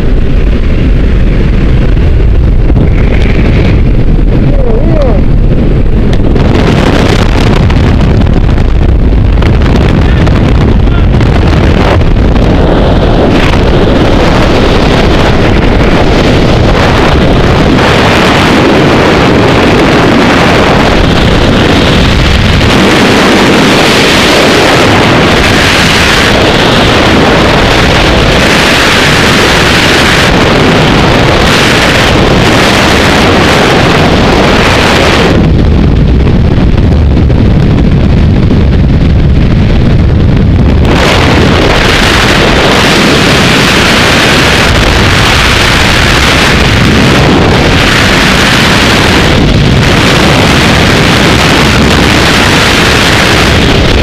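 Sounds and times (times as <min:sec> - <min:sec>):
freefall wind rushing: 0:00.0 - 0:54.0.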